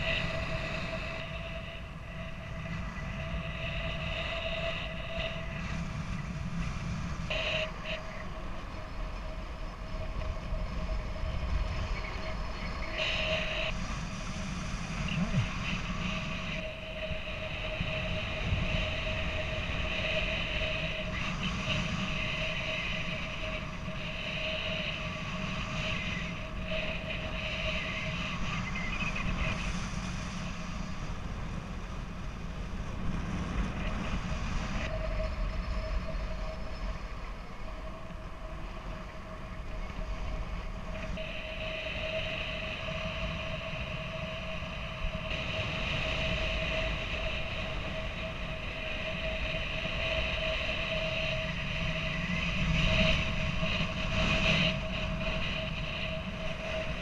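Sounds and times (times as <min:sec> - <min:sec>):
wind rushing over camera: 0:00.0 - 0:57.0.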